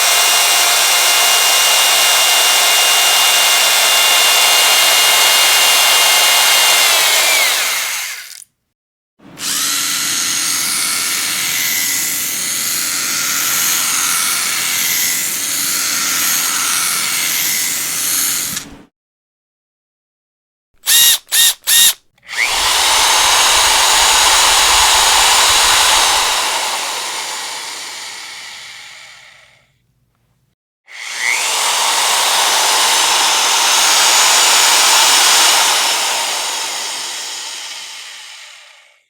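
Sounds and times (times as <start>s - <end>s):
electric drill whining: 0.0s - 8.4s, 9.4s - 18.6s, 20.8s - 29.6s, 30.9s - 39.0s.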